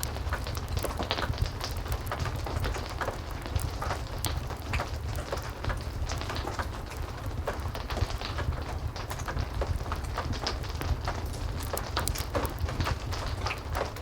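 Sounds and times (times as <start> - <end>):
heavy rain falling: 0.0 - 14.0
wood fire crackling: 0.0 - 14.0.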